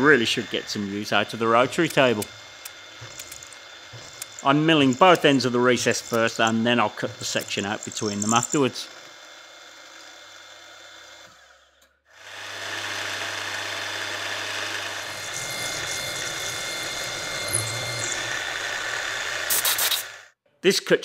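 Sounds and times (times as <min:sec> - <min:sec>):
milling machine running: 0:00.0 - 0:11.5, 0:12.2 - 0:20.2
end mill cutting metal: 0:00.0 - 0:11.6, 0:12.3 - 0:20.2.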